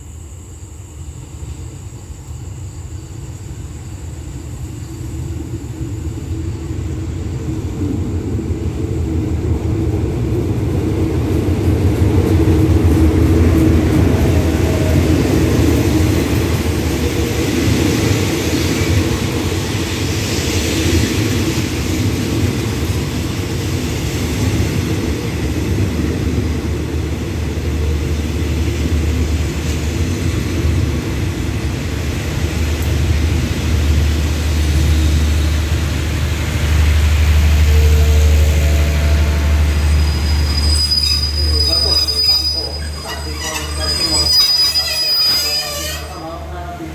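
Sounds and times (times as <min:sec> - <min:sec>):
locomotive engine drone: 0:04.0 - 0:46.9
train coaches rolling on rails: 0:05.0 - 0:46.9.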